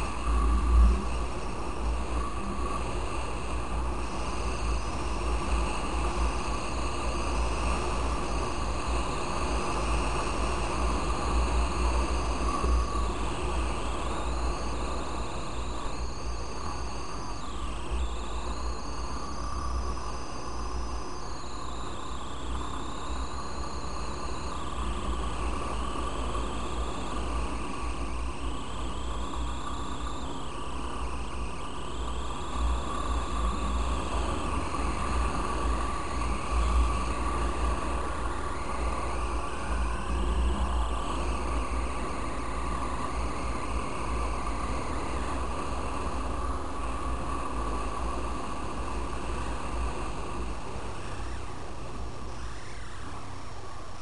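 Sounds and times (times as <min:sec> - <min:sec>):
high engine whine: 0:00.0 - 0:54.0
wind rumble on microphone: 0:00.0 - 0:54.0.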